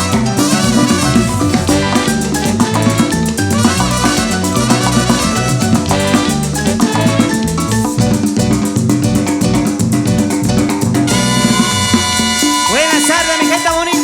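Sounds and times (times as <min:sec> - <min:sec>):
live latin dance band: 0:00.0 - 0:14.0.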